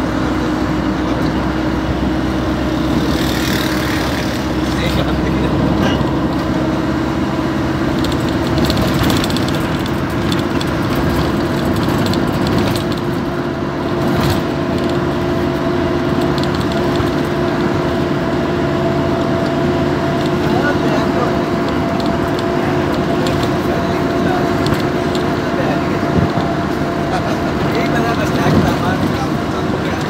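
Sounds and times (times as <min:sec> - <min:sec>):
car engine and road noise: 0:00.0 - 0:30.0
constant hum: 0:00.0 - 0:30.0.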